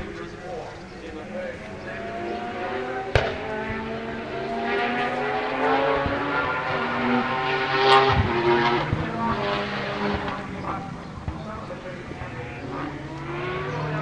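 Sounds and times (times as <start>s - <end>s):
race car engine accelerating: 0.0s - 14.0s.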